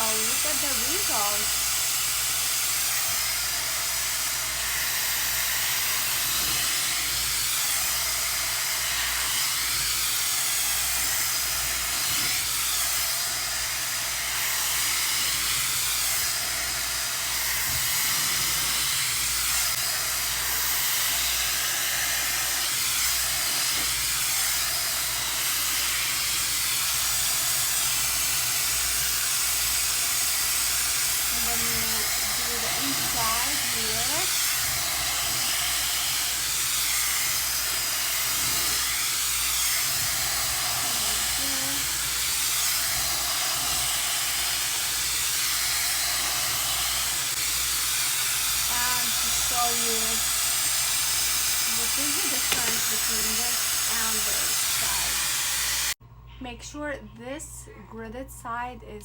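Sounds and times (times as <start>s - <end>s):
hair dryer blowing air: 0.0s - 56.0s.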